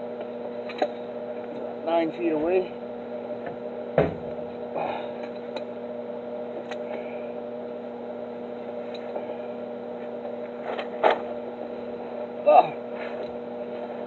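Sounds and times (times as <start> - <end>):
welder electrical hum: 0.0 - 14.0.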